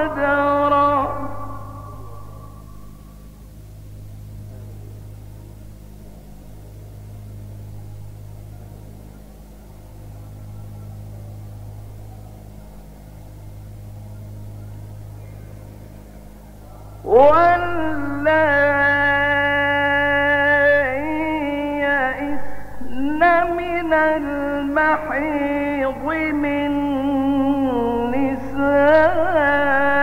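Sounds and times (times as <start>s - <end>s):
low hum and faint hiss: 0.0s - 30.0s.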